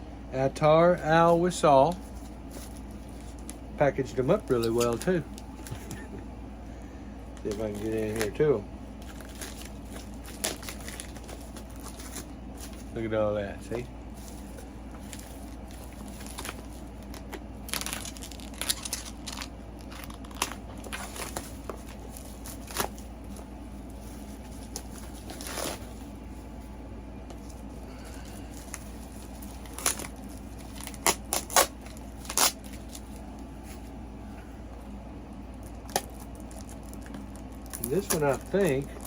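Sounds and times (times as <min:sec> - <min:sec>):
wrapping rustling and crinkling: 0:01.0 - 0:06.1, 0:07.3 - 0:34.0, 0:35.5 - 0:39.0.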